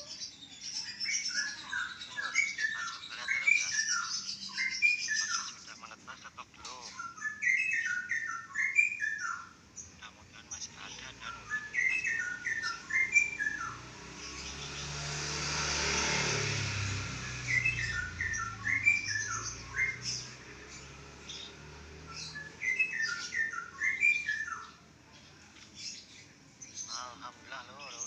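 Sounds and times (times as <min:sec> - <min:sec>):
bird singing bubbling phrases: 0:00.0 - 0:15.0, 0:16.9 - 0:28.0.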